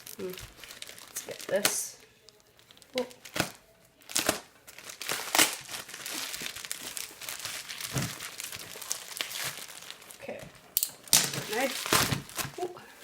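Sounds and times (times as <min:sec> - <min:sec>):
packaging crinkling and rustling: 0:00.0 - 0:12.7.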